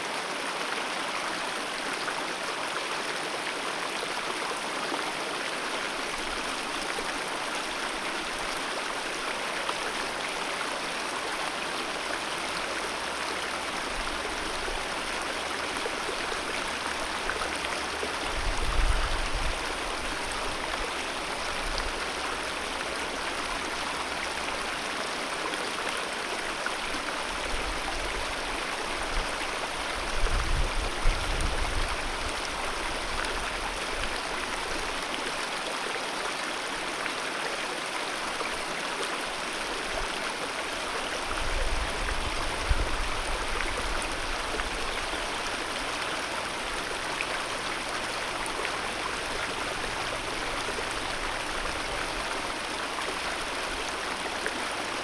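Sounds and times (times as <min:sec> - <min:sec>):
mountain river flowing: 0:00.0 - 0:55.0.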